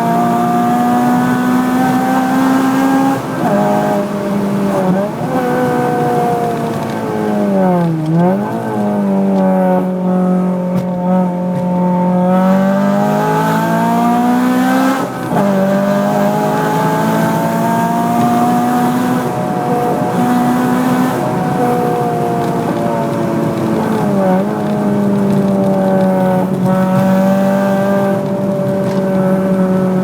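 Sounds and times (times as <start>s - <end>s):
car engine under load: 0.0s - 30.0s.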